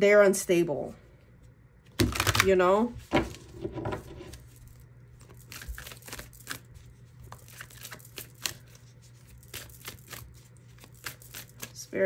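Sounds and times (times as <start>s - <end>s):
faint steady hum: 0.0s - 12.0s
cards being shuffled: 1.9s - 11.9s.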